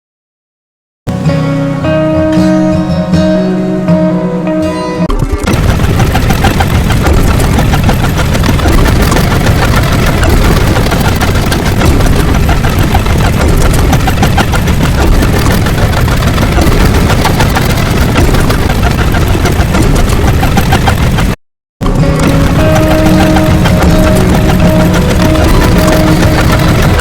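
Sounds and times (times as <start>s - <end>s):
heavy engine-like rumble: 5.1s - 27.0s
small clicks: 5.1s - 27.0s.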